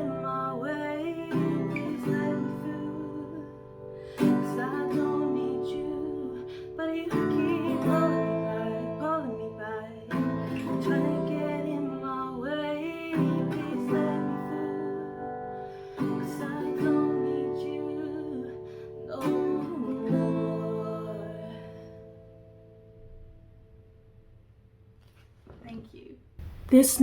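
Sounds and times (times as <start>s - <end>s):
gliding melodic guitar notes: 0.0s - 23.0s
acoustic guitar chords: 0.0s - 24.4s.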